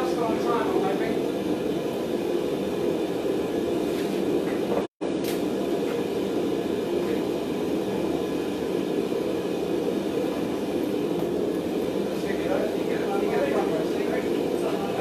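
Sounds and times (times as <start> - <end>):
forge roaring: 0.0 - 15.0.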